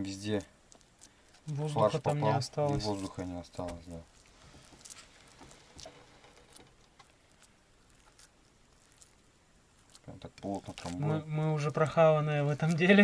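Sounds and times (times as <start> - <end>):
meat and rice squishing by hand: 0.0 - 13.0.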